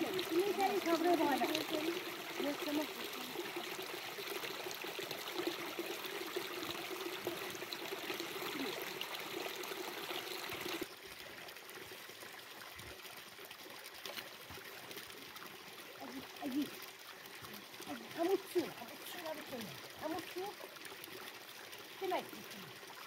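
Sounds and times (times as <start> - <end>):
shallow stream trickling: 0.0 - 23.0
water pouring onto rocks: 0.0 - 23.0.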